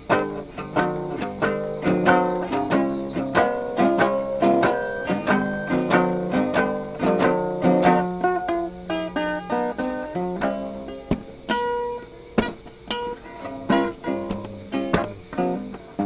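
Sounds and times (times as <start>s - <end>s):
acoustic guitar strumming blues: 0.0s - 16.0s.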